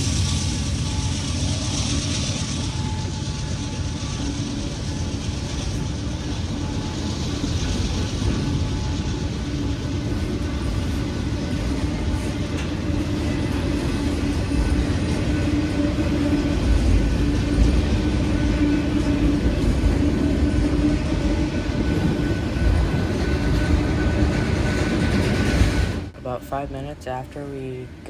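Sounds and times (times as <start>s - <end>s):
diesel locomotive engine drone: 0.0s - 28.0s.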